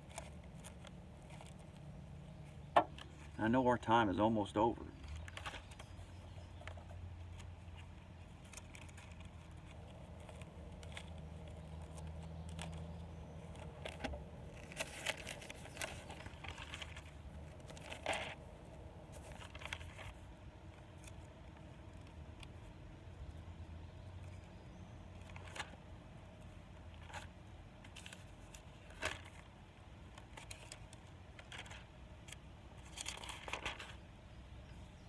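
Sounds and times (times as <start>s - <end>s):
paper pages rustling and turning: 0.0s - 3.4s, 5.0s - 22.7s, 25.1s - 25.8s, 26.8s - 34.1s
low steady rumble: 0.0s - 35.0s.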